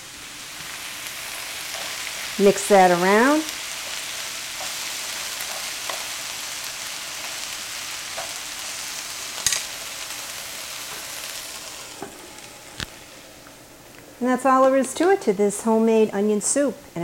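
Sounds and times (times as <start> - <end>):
onions sizzling in a frying pan: 0.0 - 16.8.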